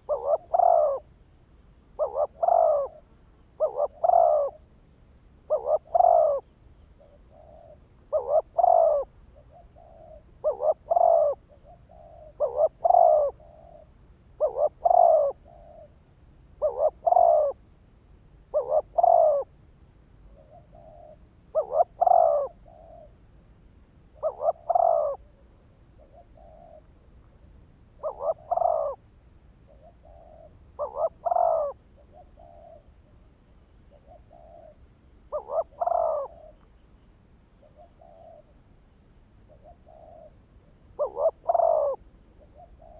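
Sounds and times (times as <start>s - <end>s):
dove cooing: 0.0s - 1.2s, 1.9s - 4.7s, 5.4s - 16.0s, 16.6s - 17.7s, 18.5s - 19.5s, 20.3s - 23.2s, 24.2s - 27.4s, 28.0s - 29.0s, 29.6s - 33.3s, 33.9s - 36.8s, 37.6s - 38.7s, 39.4s - 42.9s.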